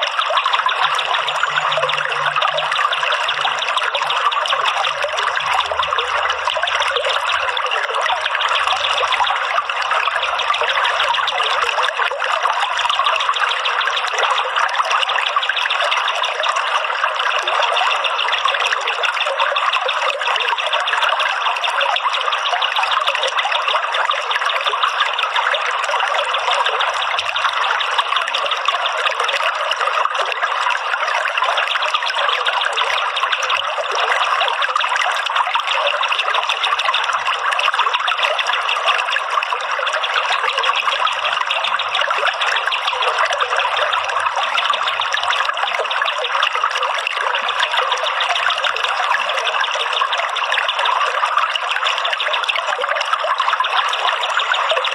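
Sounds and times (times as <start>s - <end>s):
water trickling and splashing: 0.0s - 54.9s.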